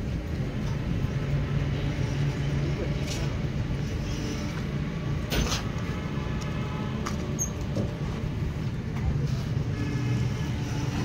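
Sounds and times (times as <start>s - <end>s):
diesel train humming: 0.0s - 11.0s.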